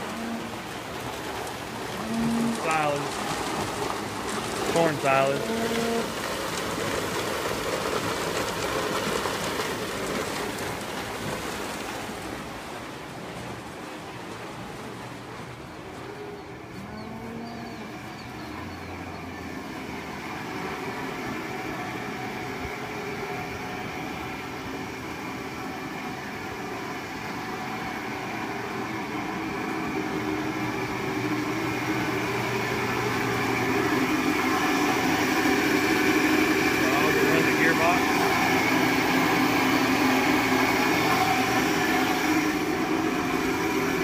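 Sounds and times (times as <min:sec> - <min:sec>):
belt-driven machine humming and whirring: 0:00.0 - 0:44.0.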